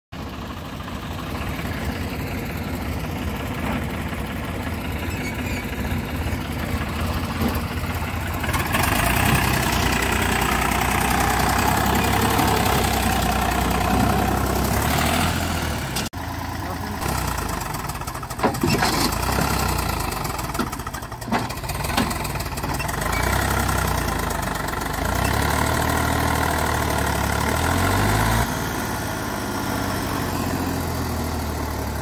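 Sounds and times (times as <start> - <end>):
diesel tractor engine working hard: 0.2 - 32.0.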